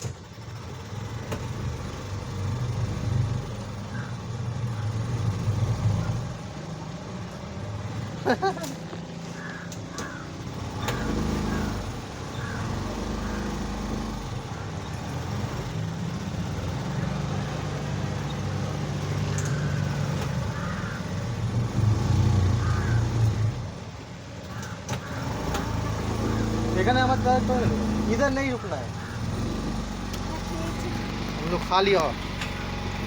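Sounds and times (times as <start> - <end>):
motorboat engine droning: 0.0 - 33.0.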